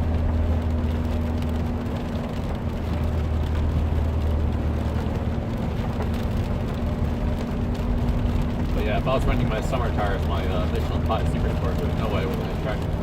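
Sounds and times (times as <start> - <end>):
car engine drone: 0.0 - 13.0
rain on car body: 0.0 - 13.0
tyres hissing on wet road: 0.0 - 13.0.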